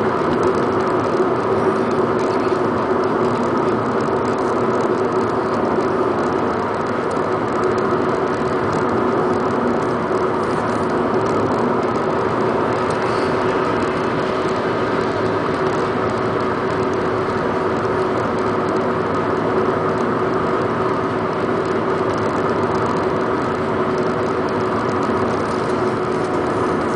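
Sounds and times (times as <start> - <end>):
car engine droning: 0.0 - 26.9.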